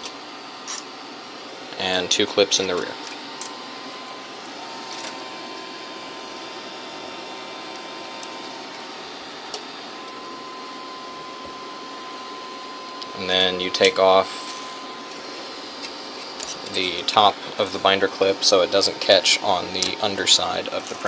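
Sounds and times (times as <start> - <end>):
cooling fans whirring: 0.0 - 21.0
thin constant whine: 0.0 - 21.0.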